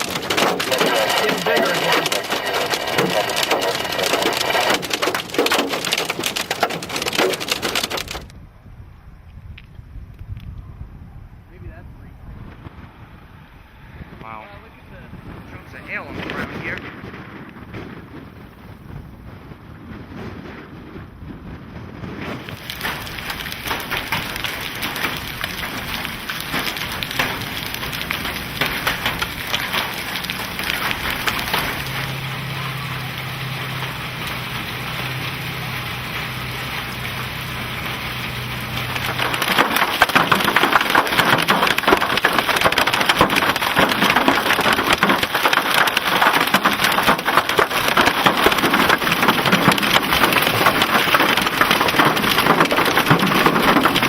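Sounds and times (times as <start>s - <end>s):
hail and rain pelting a vehicle: 0.0s - 8.3s, 15.6s - 19.0s, 22.2s - 54.0s.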